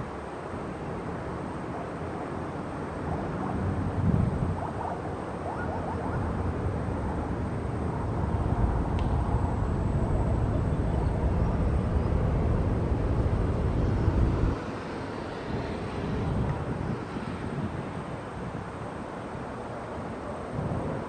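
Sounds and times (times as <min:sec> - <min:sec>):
distant jet engine rumble: 0:00.0 - 0:21.0
wind noise: 0:00.0 - 0:21.0.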